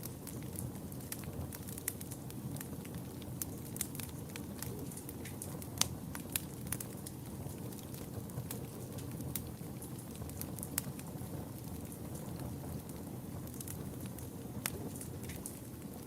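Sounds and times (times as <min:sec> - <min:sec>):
fire crackling and popping: 0:00.0 - 0:16.0
wood fire rumbling: 0:00.0 - 0:16.0.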